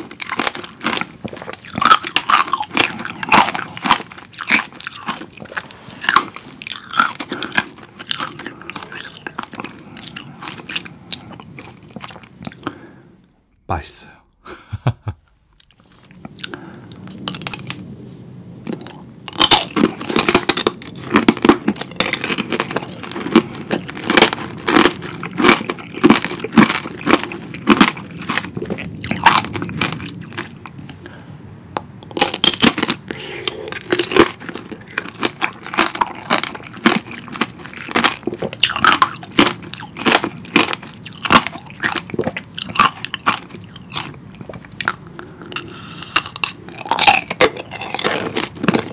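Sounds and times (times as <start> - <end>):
candy shell crunching between teeth: 0.0 - 12.8, 15.5 - 17.8, 18.6 - 31.0, 32.0 - 48.9.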